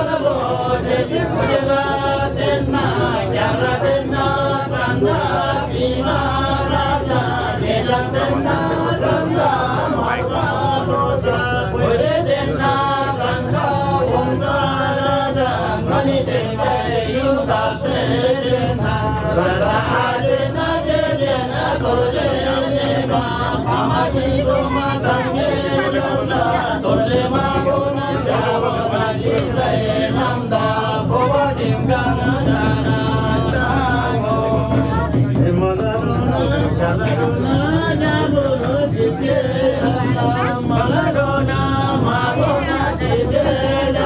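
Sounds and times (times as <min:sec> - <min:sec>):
men chanting a prayer: 0:00.0 - 0:44.0.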